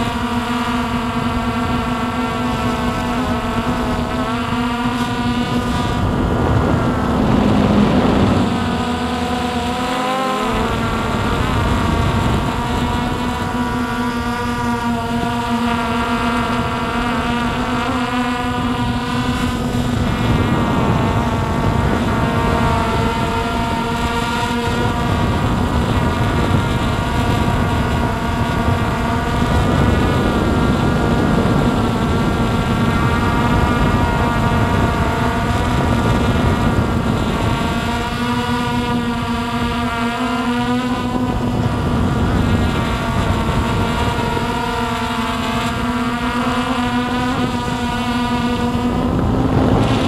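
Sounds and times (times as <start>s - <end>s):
drone motors whining: 0.0s - 50.0s
wind noise on microphone: 0.0s - 50.0s.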